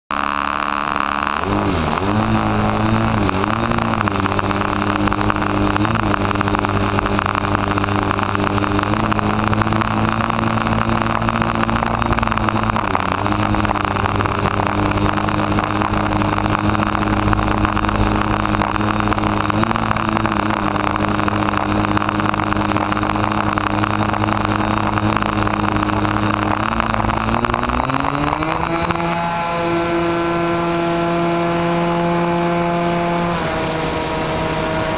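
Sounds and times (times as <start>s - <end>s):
model airplane engine and propeller: 0.1s - 34.9s.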